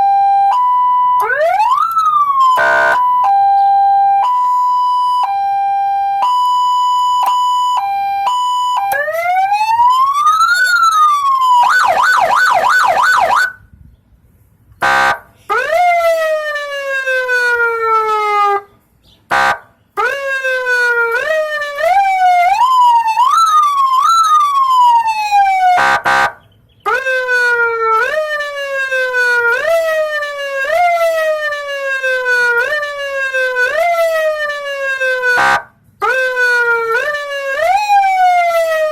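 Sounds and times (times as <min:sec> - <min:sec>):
vehicle siren: 0:00.0 - 0:13.6, 0:14.8 - 0:18.7, 0:19.3 - 0:38.9.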